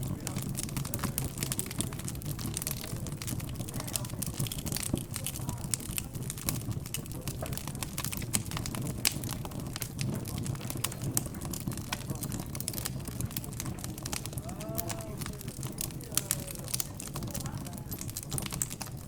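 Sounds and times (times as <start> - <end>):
background chatter: 0.0 - 19.0
wood fire crackling: 0.0 - 19.0.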